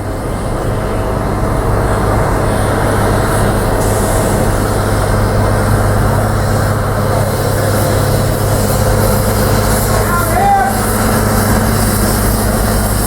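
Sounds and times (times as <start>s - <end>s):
steady low hum: 0.0s - 13.0s
train rumbling past: 0.0s - 13.0s.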